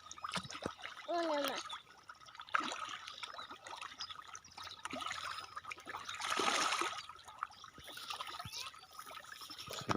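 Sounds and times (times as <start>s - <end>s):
water trickling and splashing: 0.0s - 9.9s.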